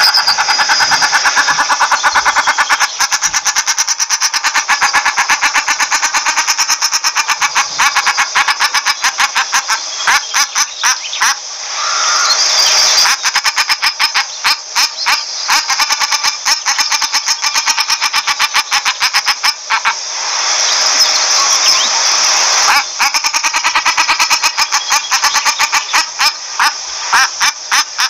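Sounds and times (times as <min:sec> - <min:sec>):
duck calling harshly: 0:00.0 - 0:12.3, 0:13.0 - 0:20.0, 0:22.6 - 0:28.0
hiss: 0:00.0 - 0:28.0.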